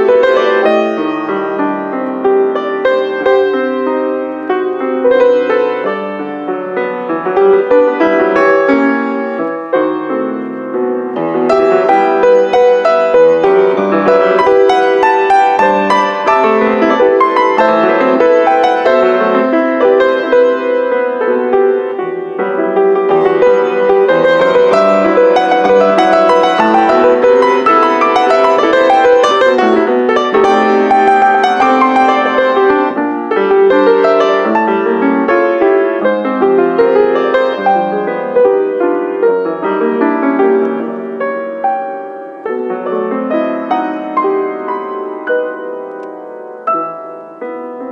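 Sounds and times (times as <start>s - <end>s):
grand piano played four hands: 0.0s - 47.9s.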